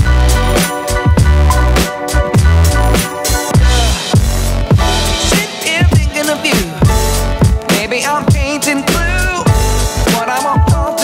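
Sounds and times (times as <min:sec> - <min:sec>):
hip hop music: 0:00.0 - 0:11.0.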